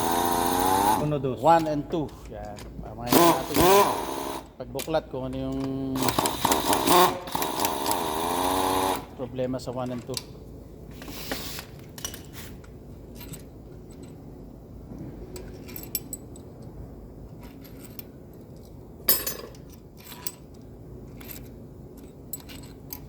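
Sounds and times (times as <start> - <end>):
metal tools clinking on engine: 0.0 - 8.4, 11.9 - 14.3, 15.4 - 23.0
low steady hum: 0.0 - 23.0.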